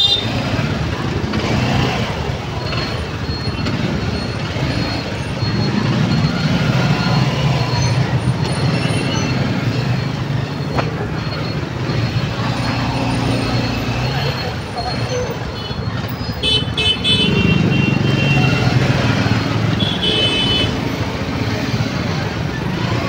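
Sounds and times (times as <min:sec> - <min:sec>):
motorcycle engines droning: 0:00.0 - 0:23.0
road and traffic noise: 0:00.0 - 0:23.0.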